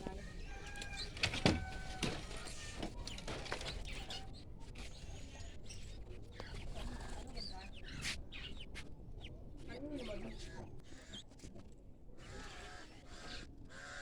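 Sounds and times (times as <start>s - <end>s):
birds chirping and calling: 0.0s - 11.3s.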